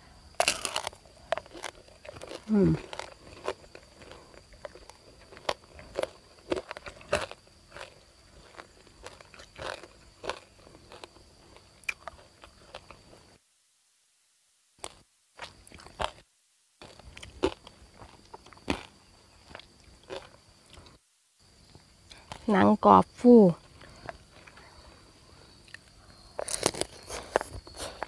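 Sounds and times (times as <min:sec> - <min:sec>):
crunchy chewing of crispy pork: 0:00.0 - 0:13.4, 0:14.8 - 0:16.2, 0:16.8 - 0:21.0, 0:21.6 - 0:22.5, 0:23.6 - 0:28.0.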